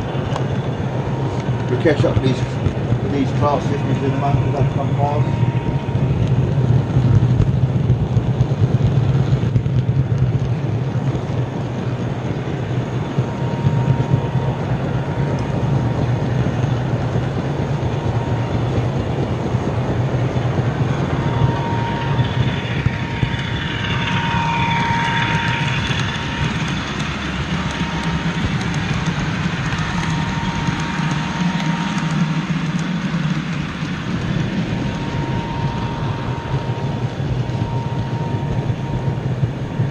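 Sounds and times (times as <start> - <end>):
higher wavering whine: 0.0 - 39.9
model train motor hum and rumble: 0.0 - 39.9
thin high whine: 0.0 - 39.9.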